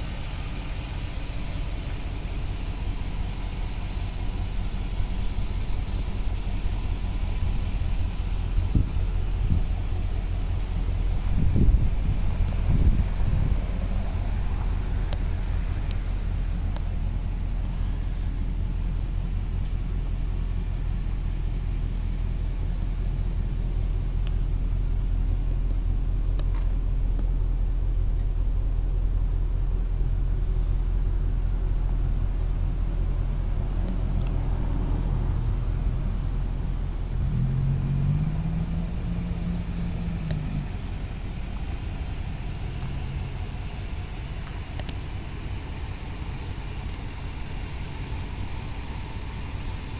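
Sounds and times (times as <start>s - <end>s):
truck engine rumbling: 0.0s - 49.9s.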